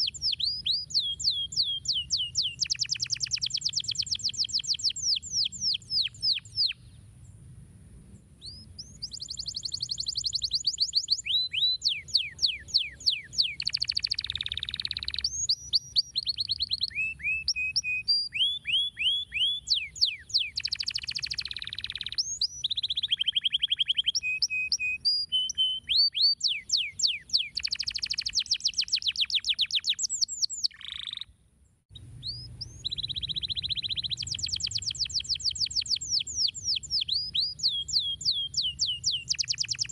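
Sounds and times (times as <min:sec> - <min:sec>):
canary singing trills: 0:00.0 - 0:06.9, 0:08.4 - 0:31.3, 0:31.9 - 0:39.9.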